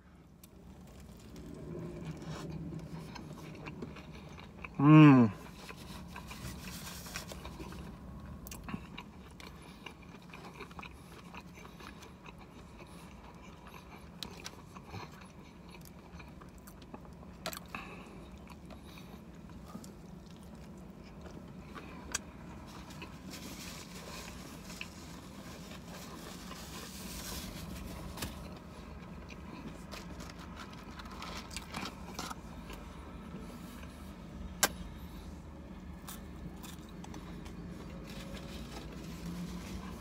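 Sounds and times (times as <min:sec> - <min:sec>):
steady low hum: 0:00.0 - 0:40.0
man chewing food: 0:00.2 - 0:40.0.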